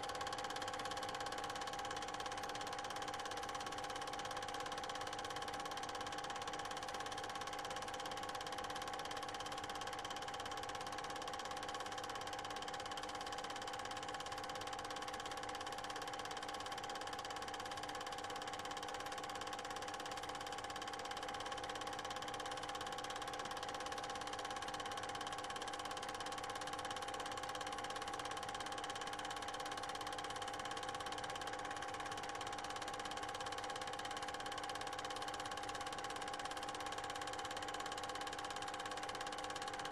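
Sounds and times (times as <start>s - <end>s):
film projector mechanical hum: 0.0s - 39.9s.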